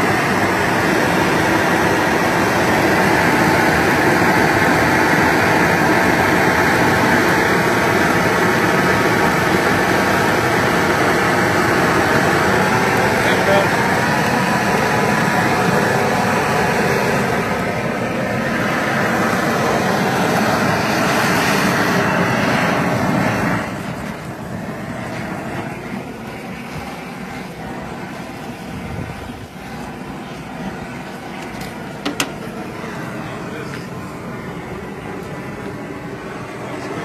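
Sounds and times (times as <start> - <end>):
flamethrower flame rushing: 0.0 - 37.0.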